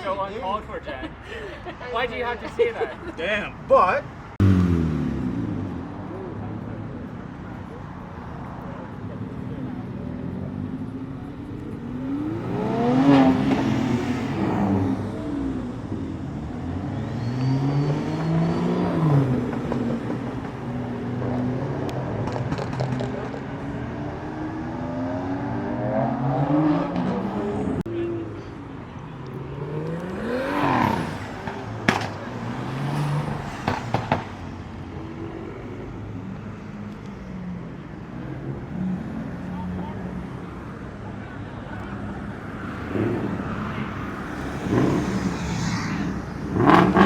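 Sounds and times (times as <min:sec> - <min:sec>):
car engines revving: 0:00.0 - 0:47.0
cars driving past: 0:00.0 - 0:47.0.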